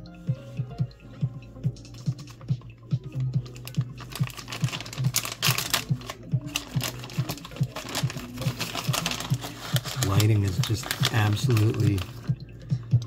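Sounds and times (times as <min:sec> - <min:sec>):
background music with low beat: 0:00.0 - 0:13.0.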